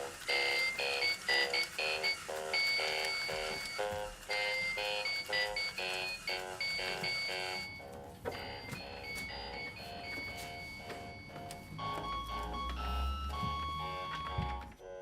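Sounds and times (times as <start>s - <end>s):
alarm clock beeping tune: 0.0s - 15.0s.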